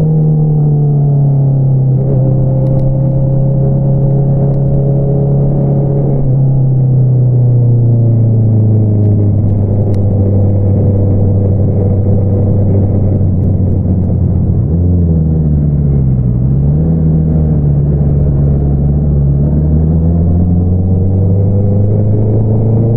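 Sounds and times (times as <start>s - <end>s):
motorcycle engine revving: 1.6s - 6.8s, 7.8s - 22.9s.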